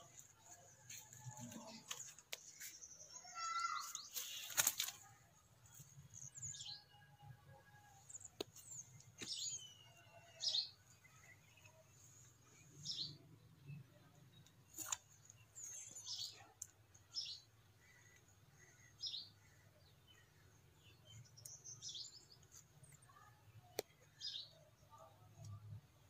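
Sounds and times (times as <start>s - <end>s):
small birds chirping: 0.0s - 7.1s, 8.0s - 26.0s.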